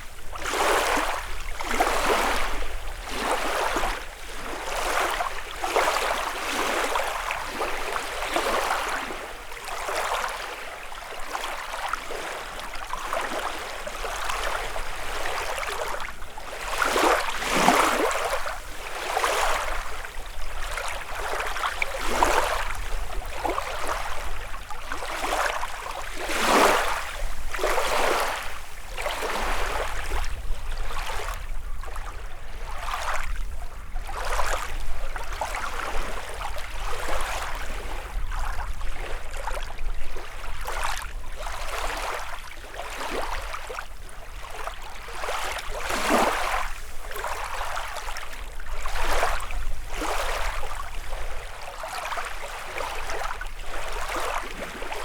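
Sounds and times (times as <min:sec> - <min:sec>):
lake waves lapping on shore: 0:00.0 - 0:55.0
water splashes: 0:00.2 - 0:32.0, 0:40.2 - 0:55.0.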